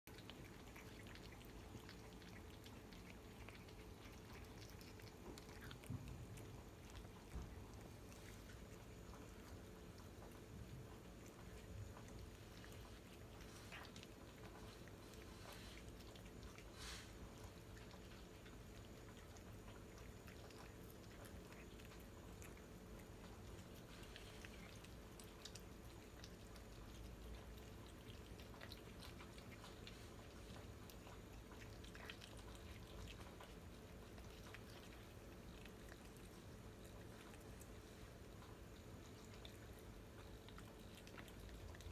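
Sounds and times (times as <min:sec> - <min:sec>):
cat chewing wetly: 0:00.0 - 0:41.9
low room hum: 0:00.0 - 0:41.9.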